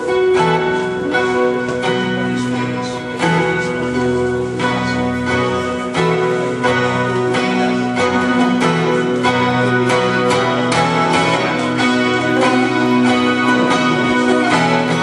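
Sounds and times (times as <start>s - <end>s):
solo guitar instrumental: 0.0s - 15.0s.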